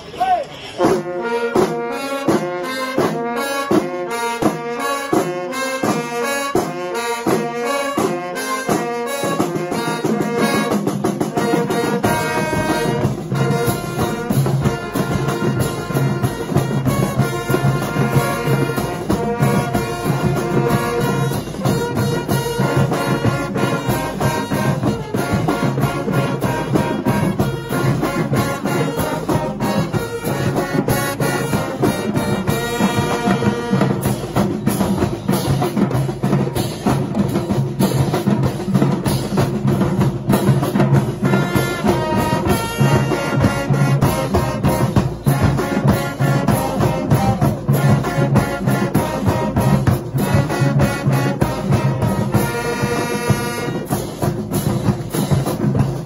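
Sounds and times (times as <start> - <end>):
marching band playing: 0.0 - 56.0
drum hits: 5.2 - 56.0.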